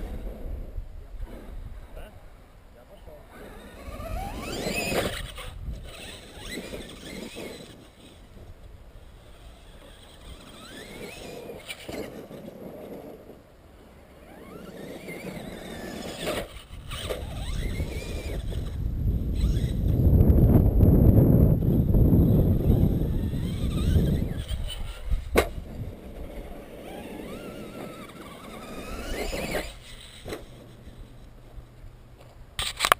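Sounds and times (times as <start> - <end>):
electric motors whining: 3.0 - 32.9.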